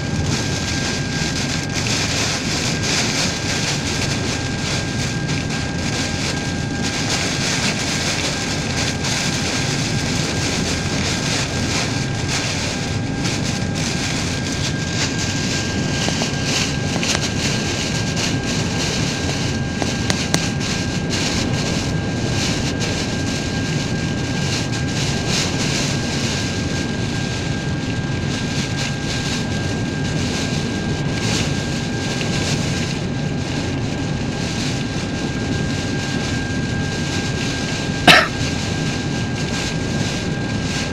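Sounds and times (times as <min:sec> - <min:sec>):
strong wind rushing: 0:00.0 - 0:40.9.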